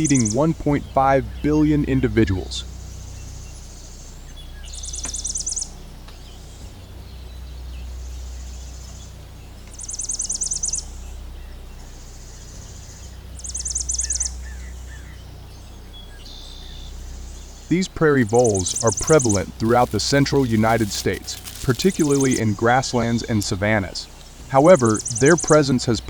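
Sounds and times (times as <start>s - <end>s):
low hum: 0.8s - 25.2s.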